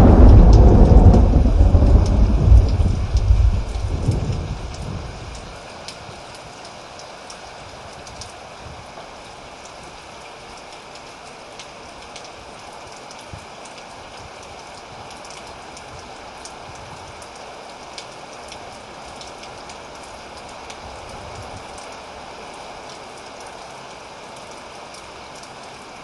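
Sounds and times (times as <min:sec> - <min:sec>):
raindrops ticking on a surface: 0:00.0 - 0:26.0
steady rainfall: 0:00.0 - 0:26.0.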